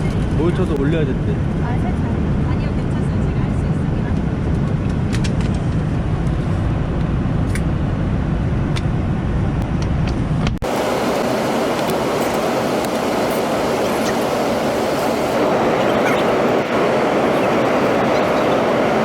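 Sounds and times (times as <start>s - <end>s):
airliner cabin engine drone: 1.1s - 19.0s.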